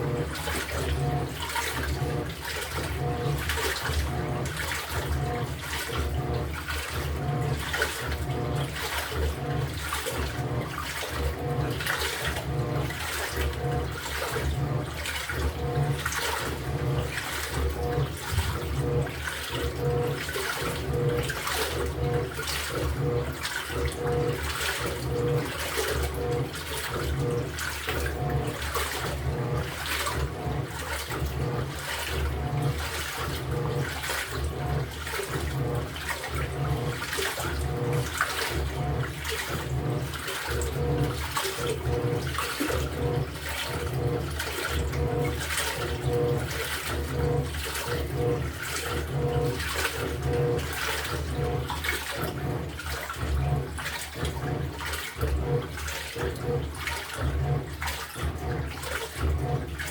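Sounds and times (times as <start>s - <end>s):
washing machine motor hum: 0.0s - 59.9s
water sloshing: 0.0s - 59.9s.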